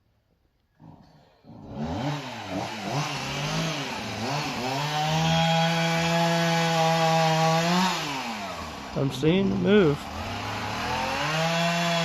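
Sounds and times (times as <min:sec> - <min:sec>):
chainsaw engine revving: 0:00.8 - 0:12.0.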